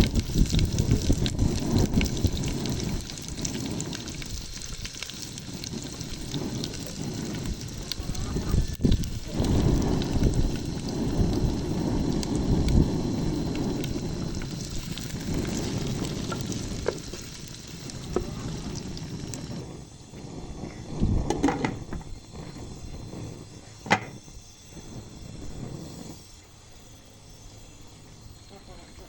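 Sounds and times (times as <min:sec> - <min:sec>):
wind rumbling on microphone: 0:00.0 - 0:26.3
faint crackles: 0:00.0 - 0:26.6.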